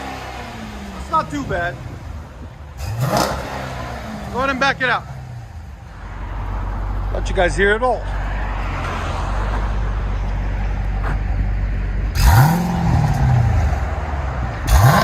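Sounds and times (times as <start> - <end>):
car engine revving: 0.0 - 7.5, 8.1 - 15.0
car engine idling rumble: 0.0 - 8.2, 9.5 - 15.0.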